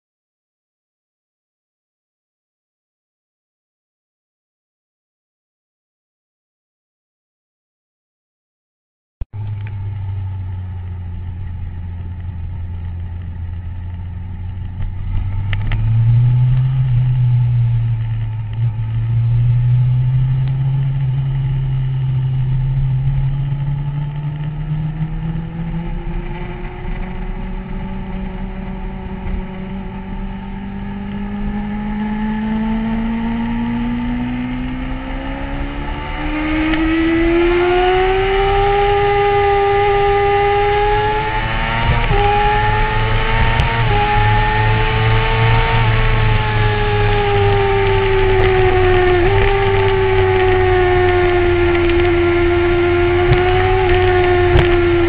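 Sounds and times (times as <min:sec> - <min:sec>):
motorcycle engine accelerating: 0:09.3 - 0:55.0
low wind rush: 0:09.4 - 0:55.0.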